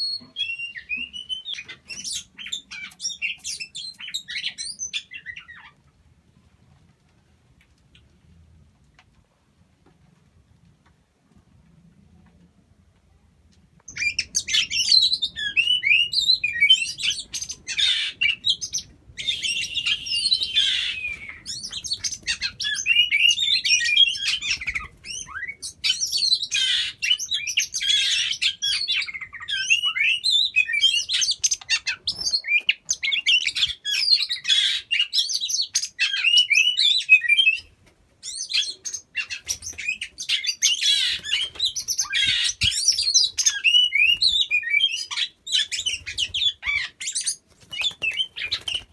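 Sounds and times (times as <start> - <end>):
bird singing whistles and chirps: 0.0 - 5.6, 13.9 - 48.9.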